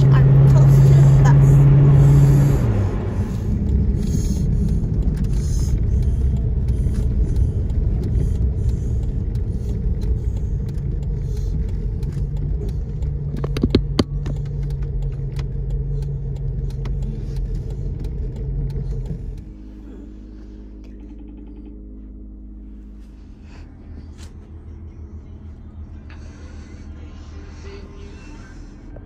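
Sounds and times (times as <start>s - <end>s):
engine and tyres rumbling: 0.0s - 29.0s
low hum: 0.0s - 29.0s.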